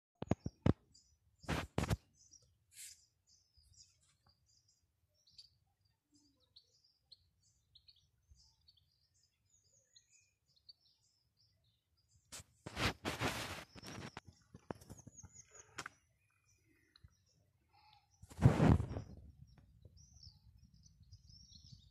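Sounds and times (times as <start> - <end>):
small birds chirping: 0.2 - 21.9.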